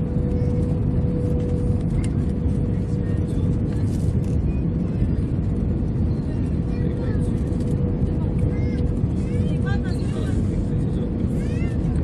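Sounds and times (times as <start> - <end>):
airplane cabin rumble: 0.0 - 12.0
mid-pitched hum: 0.0 - 12.0.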